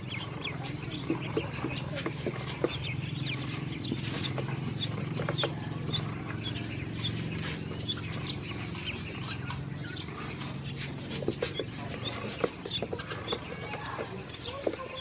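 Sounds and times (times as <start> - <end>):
ducklings peeping: 0.0 - 15.0
steady low hum: 0.0 - 15.0.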